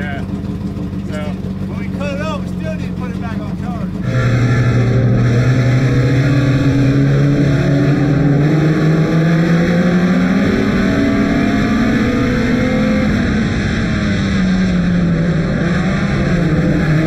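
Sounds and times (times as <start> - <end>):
other car engines nearby: 0.0 - 17.0
race car engine from inside: 0.0 - 17.0.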